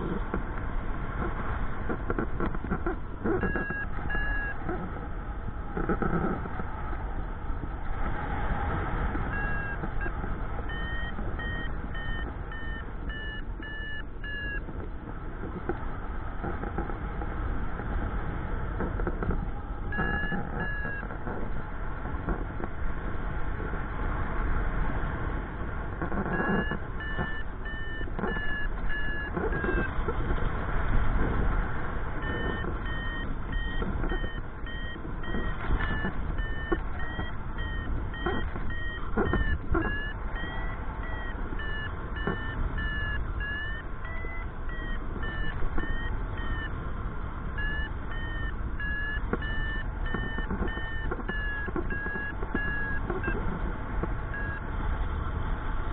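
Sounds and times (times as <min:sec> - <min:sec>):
wind noise on microphone: 0:00.0 - 0:55.9
variometer beeping: 0:01.2 - 0:06.9, 0:09.1 - 0:16.9, 0:18.7 - 0:22.8, 0:25.9 - 0:30.4, 0:31.1 - 0:54.8.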